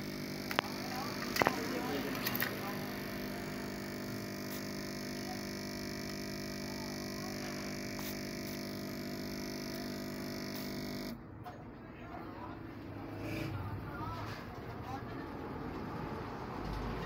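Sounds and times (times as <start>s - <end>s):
electrical hum: 0.0s - 15.2s.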